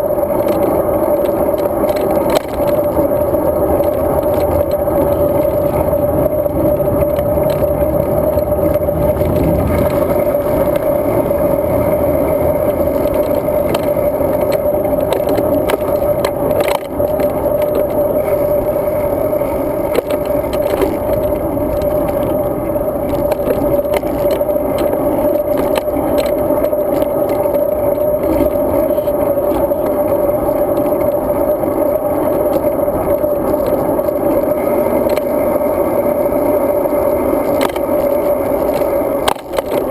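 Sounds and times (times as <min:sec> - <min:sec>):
bicycle riding rumble: 0:00.0 - 0:39.9
clicks and rattles: 0:00.3 - 0:35.4, 0:37.2 - 0:39.9.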